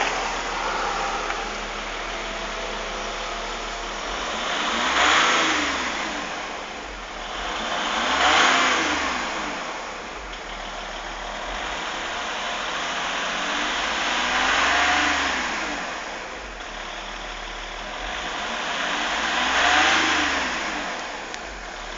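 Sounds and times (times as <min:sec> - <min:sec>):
noisy rush on revs: 0:00.0 - 0:21.9
vehicle engine revving: 0:00.0 - 0:21.9.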